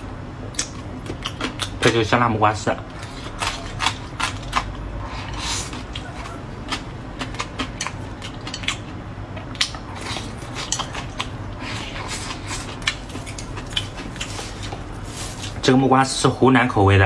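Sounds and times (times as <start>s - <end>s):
chewing and crunching: 0.5s - 2.1s, 2.9s - 15.8s.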